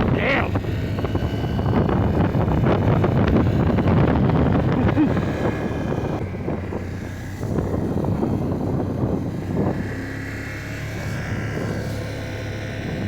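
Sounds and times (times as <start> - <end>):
atv engine running: 0.0 - 13.0
wind buffeting microphone: 0.0 - 13.0.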